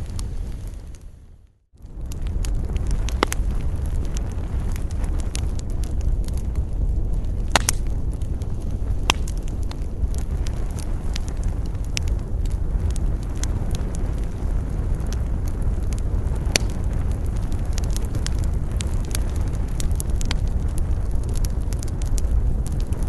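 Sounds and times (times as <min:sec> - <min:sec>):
campfire crackling and popping: 0:00.0 - 0:23.0
low wind rumble: 0:00.0 - 0:23.0.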